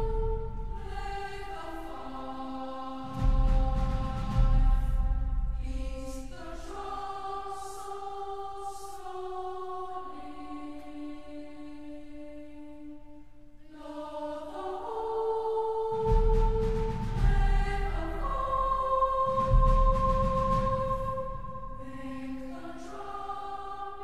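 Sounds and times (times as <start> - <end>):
wordless choir holding chords: 0.0 - 24.0.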